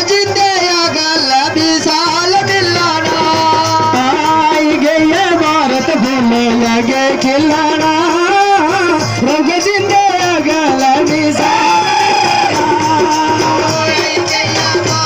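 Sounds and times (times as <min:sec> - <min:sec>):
folk singing: 0:00.0 - 0:15.0
musical accompaniment: 0:00.0 - 0:15.0.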